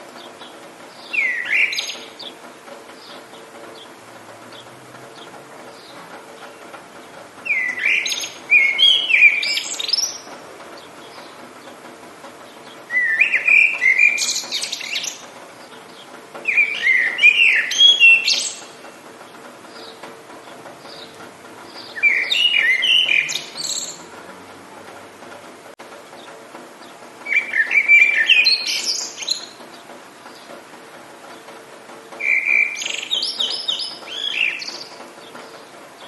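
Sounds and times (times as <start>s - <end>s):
songbird chirping: 0.0s - 25.4s, 26.0s - 36.0s.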